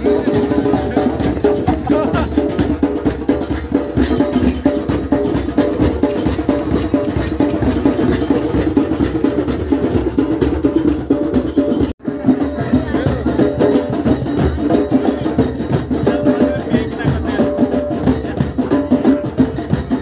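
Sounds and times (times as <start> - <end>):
drums and struck percussion: 0.0 - 20.0.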